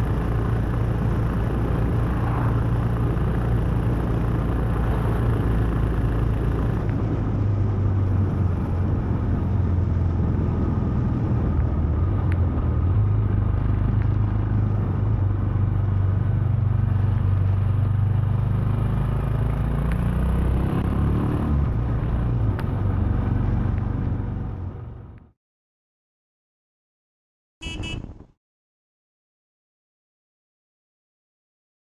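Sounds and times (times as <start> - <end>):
wind and road rumble: 0.0 - 25.4, 27.6 - 28.4.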